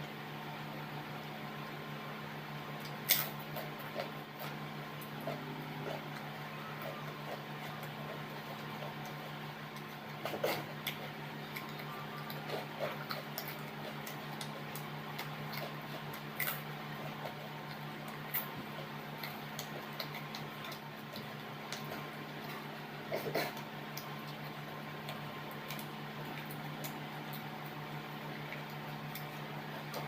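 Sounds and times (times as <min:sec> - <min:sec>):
steady low hum: 0:00.0 - 0:30.0
chewing and mouth noises: 0:02.6 - 0:30.0.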